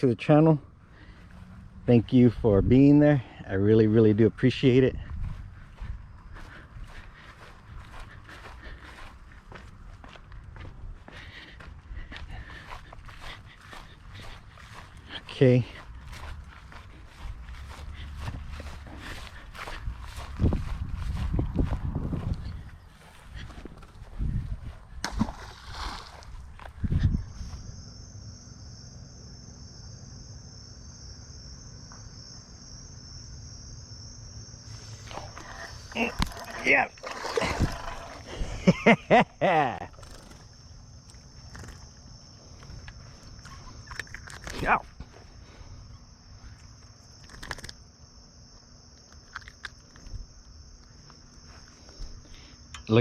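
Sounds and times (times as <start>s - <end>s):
insect high-pitched trill: 1.0s - 23.5s, 25.2s - 53.0s.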